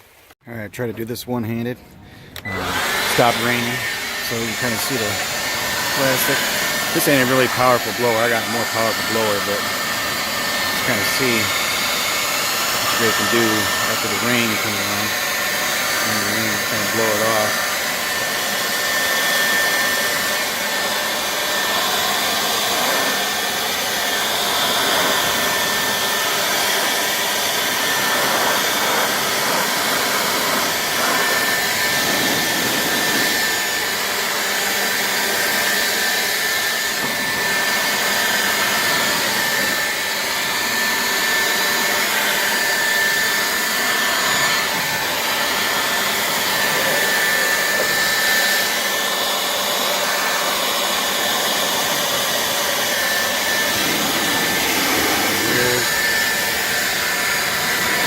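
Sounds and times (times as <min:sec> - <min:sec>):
leaf blower whining: 0:01.7 - 0:58.0.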